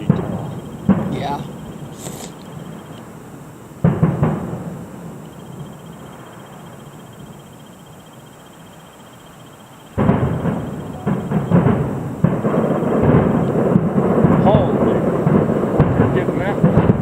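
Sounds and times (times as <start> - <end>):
distant fireworks booming: 0.0 - 17.0.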